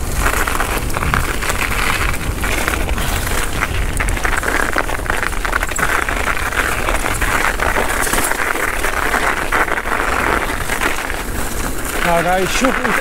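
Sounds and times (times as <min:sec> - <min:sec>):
bike tyres rolling on dirt: 0:00.0 - 0:13.0.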